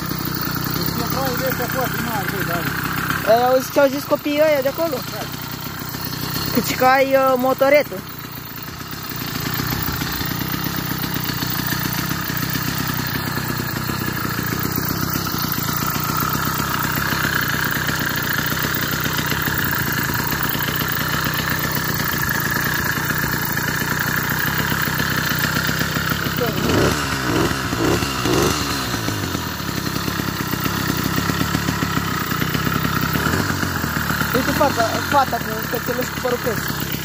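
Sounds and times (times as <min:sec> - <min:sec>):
two-stroke bicycle engine running: 0:00.0 - 0:37.0.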